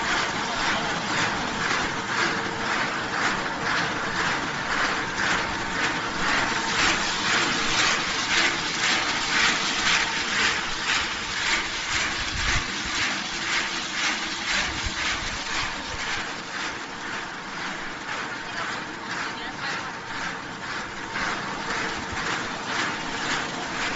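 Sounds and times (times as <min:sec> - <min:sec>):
machine hum: 0:00.0 - 0:23.9
snacks rattling in rotating drum: 0:00.0 - 0:23.9.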